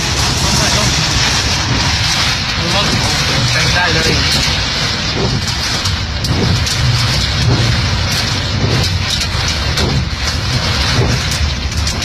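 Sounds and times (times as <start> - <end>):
car and road rumble: 0.0 - 12.0
heavy rain on car windshield: 0.0 - 12.0.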